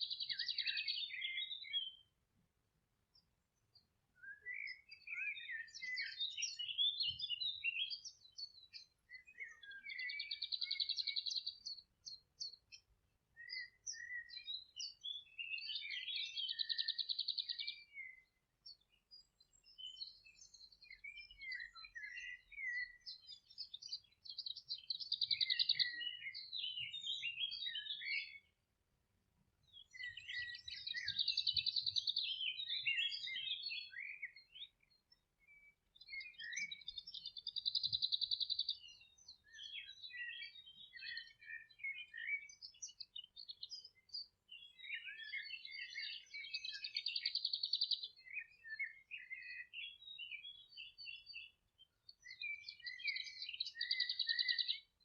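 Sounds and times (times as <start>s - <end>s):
songbird singing trills: 0.0s - 2.2s, 3.1s - 28.7s, 29.5s - 55.0s.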